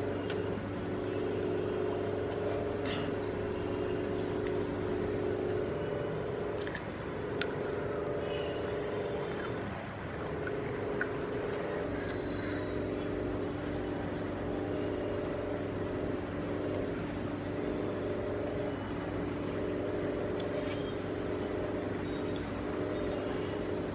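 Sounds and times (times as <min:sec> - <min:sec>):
motor running steadily: 0:00.0 - 0:23.9.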